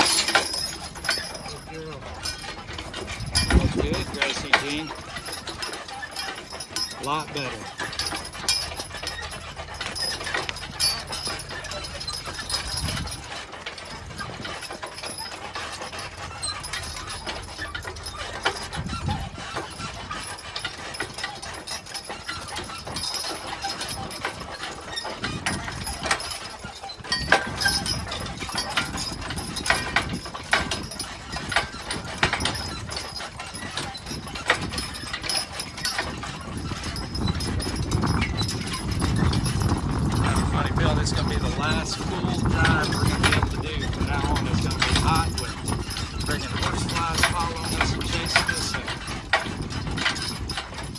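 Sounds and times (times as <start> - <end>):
hooves clopping on hard ground: 0.0 - 50.9.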